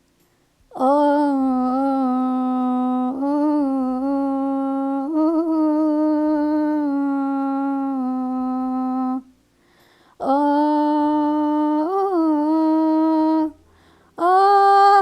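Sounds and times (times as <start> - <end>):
woman singing wordless notes: 0.7 - 9.5, 10.2 - 15.0.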